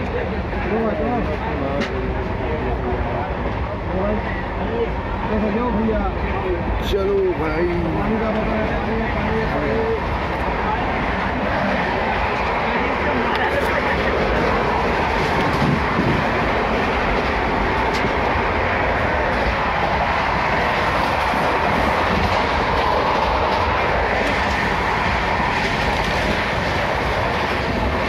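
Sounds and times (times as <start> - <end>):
train rumbling and rattling: 0.0 - 28.0.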